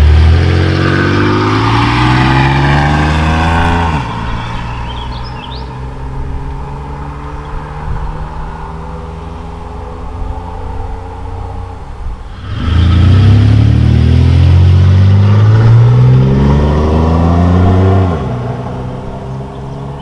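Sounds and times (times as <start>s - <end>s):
car engine exhaust accelerating: 0.0s - 20.0s.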